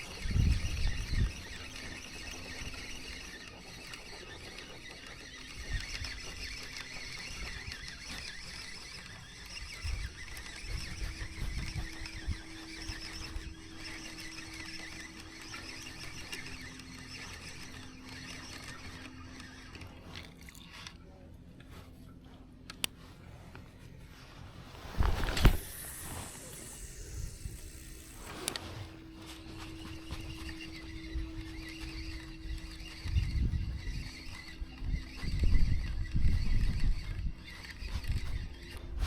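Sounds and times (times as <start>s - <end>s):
fishing reel whirring: 0.0s - 21.0s, 24.9s - 39.0s.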